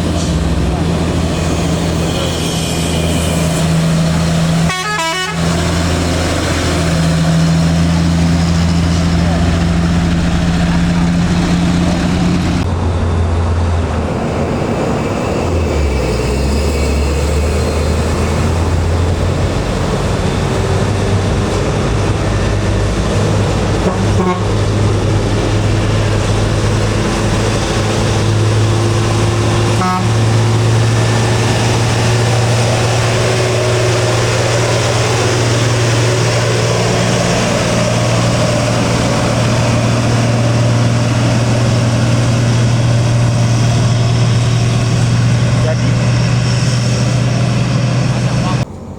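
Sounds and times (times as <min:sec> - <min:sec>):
road and traffic noise: 0:00.0 - 0:48.9
truck diesel engine labouring: 0:00.0 - 0:48.9.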